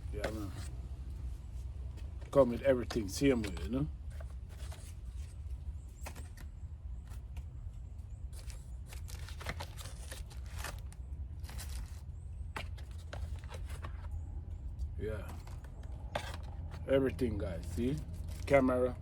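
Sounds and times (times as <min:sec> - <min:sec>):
packaging clicks and rustles: 0:02.0 - 0:19.0.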